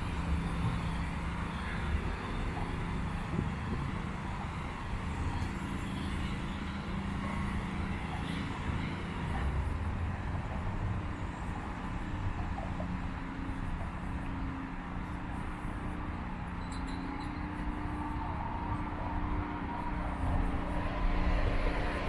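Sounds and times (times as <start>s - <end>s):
low rumble of road traffic: 0.0s - 22.0s.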